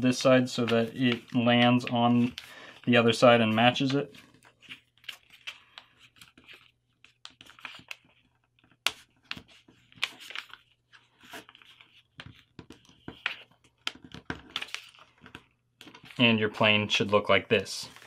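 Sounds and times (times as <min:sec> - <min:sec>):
paper rustling and crackling: 0:00.5 - 0:16.4.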